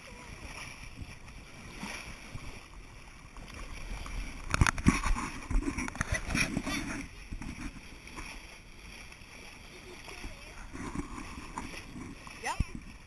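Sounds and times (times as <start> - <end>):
water rushing along boat hull: 0.0 - 13.0
water splashing: 0.0 - 13.0.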